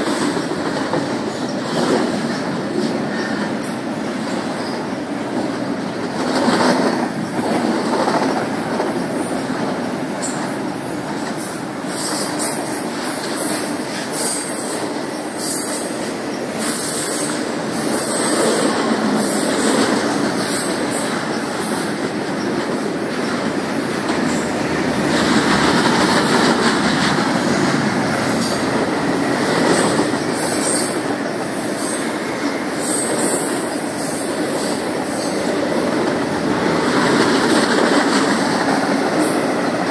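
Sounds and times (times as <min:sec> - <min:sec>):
train cars rolling on rails: 0:00.0 - 0:39.9.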